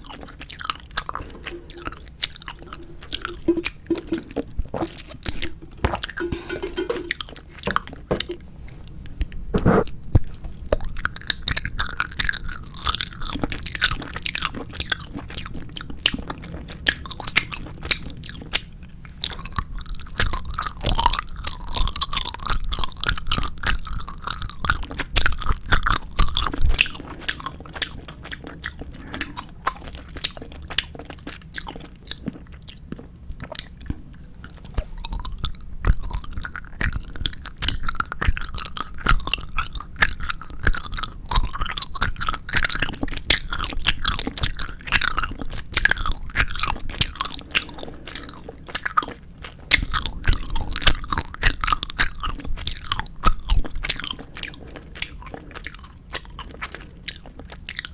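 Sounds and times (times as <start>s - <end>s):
chewing gummy candy: 0.0s - 57.9s.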